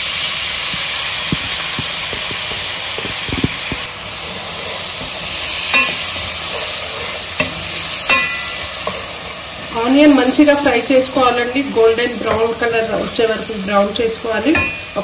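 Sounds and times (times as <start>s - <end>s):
onions sizzling in oil: 0.0s - 15.0s
spatula knocking pan: 0.8s - 12.9s, 14.4s - 15.0s.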